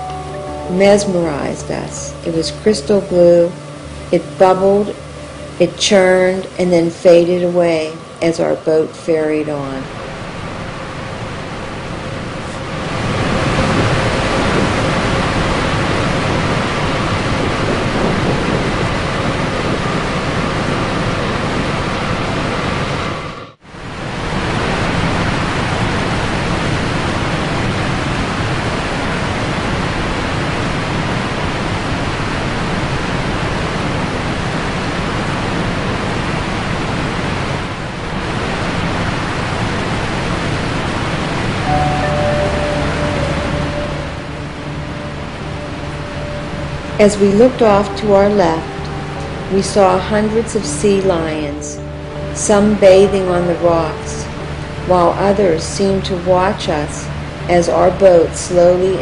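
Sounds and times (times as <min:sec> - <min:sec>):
wind rushing: 0:09.8 - 0:59.0.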